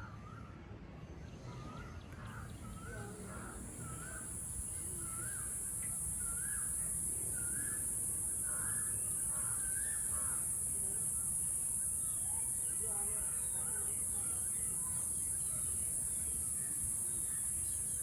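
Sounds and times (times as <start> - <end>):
bird calling: 2.3 - 18.0
high-pitched hiss: 2.7 - 18.0.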